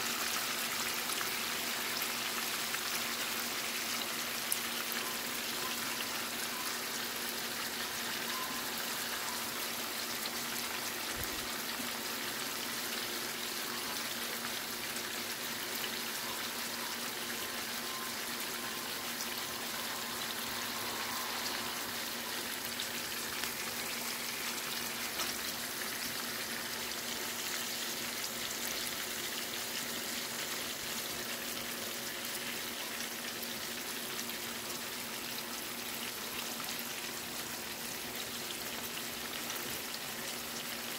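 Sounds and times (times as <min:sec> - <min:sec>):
pork chops sizzling in pan: 0:00.0 - 0:40.9.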